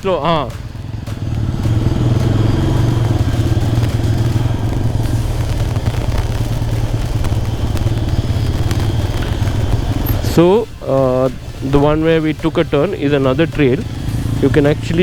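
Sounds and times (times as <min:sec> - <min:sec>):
knocks and rattles of bike: 0:00.0 - 0:15.0
motorcycle engine at low revs: 0:00.0 - 0:15.0.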